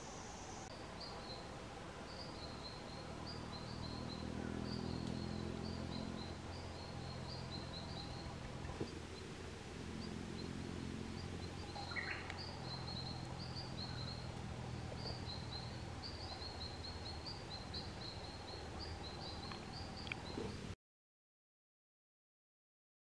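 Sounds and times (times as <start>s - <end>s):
small birds chirping: 0.0s - 20.8s.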